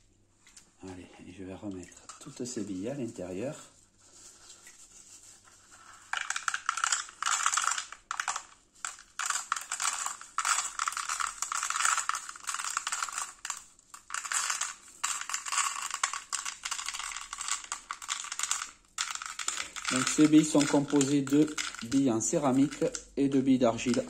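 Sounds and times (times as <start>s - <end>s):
ceramic balls pouring into plastic: 2.0s - 3.6s, 5.6s - 24.0s.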